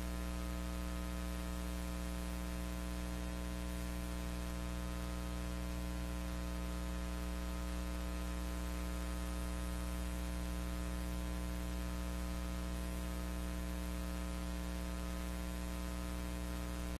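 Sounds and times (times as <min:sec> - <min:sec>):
electrical hum: 0:00.0 - 0:16.9
static hiss: 0:00.0 - 0:16.9.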